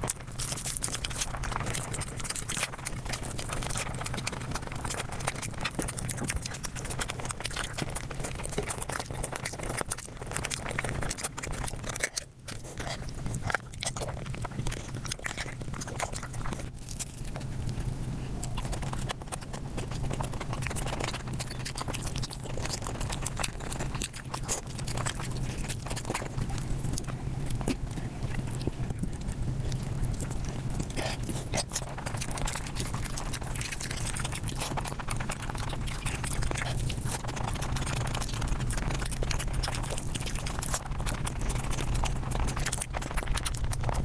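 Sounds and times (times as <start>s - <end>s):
rapid chewing and crunching: 0.0s - 44.0s.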